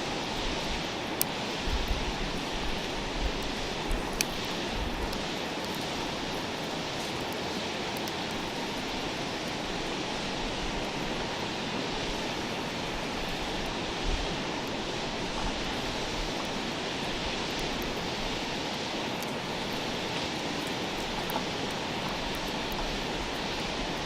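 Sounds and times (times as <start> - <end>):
campfire hissing and crackling: 0.0 - 24.0.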